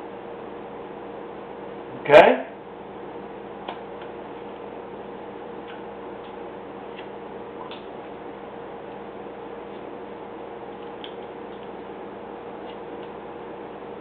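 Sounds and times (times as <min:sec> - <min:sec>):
low hiss and hum: 0:00.0 - 0:14.0.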